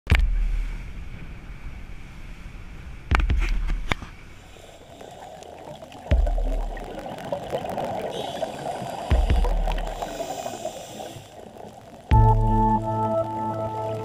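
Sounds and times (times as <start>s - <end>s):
low rumbling surges: 0.3s - 14.0s
steady hiss: 0.4s - 14.0s.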